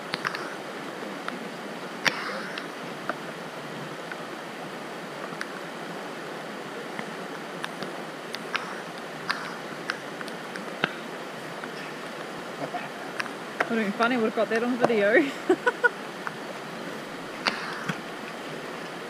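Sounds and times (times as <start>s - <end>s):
flowing creek water: 0.0s - 19.0s.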